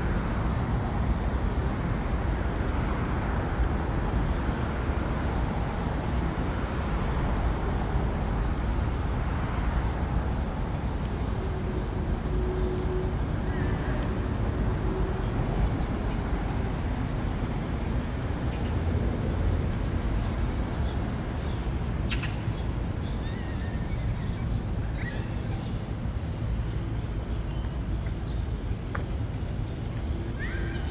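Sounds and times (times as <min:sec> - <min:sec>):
distant traffic rumble: 0:00.0 - 0:30.9.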